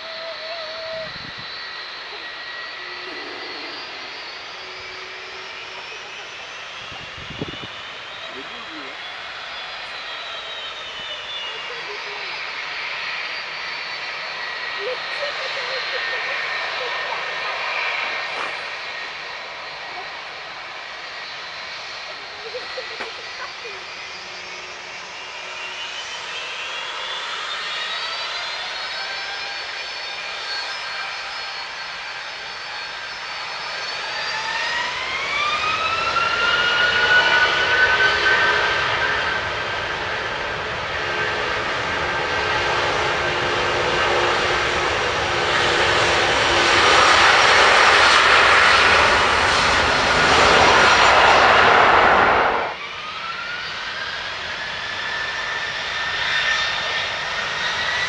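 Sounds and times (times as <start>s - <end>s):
jet engines spooling up: 0.0s - 58.0s.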